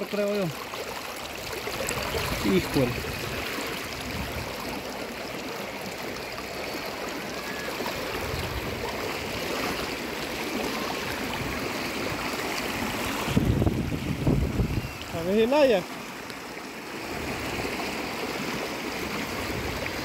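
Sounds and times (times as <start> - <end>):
river flowing over stones: 0.0 - 20.0.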